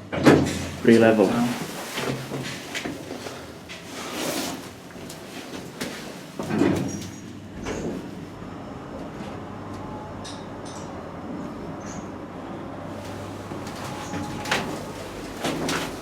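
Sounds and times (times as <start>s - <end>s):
elevator doors sliding: 0.0s - 11.1s, 12.9s - 16.0s
elevator drive humming: 0.4s - 11.3s, 12.6s - 16.0s.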